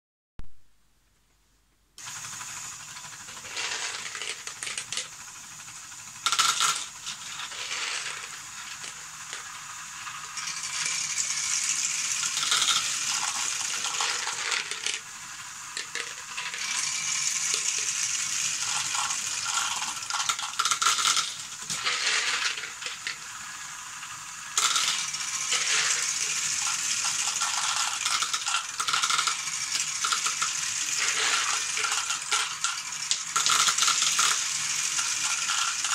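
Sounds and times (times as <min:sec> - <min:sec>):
plastic balls clattering down chutes: 0:02.0 - 0:35.9.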